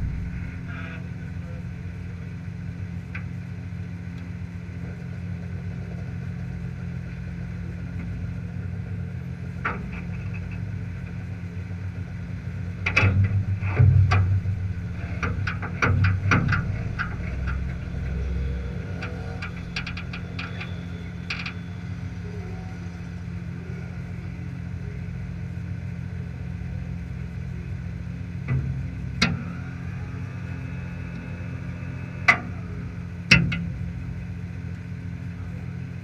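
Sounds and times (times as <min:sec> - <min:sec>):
engine bursts with sharp cracks: 0:00.0 - 0:36.0
race car engine idling: 0:00.0 - 0:36.0.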